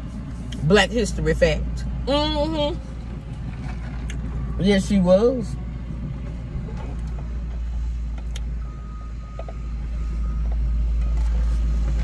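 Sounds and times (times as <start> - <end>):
construction machinery rumble: 0.0 - 12.0.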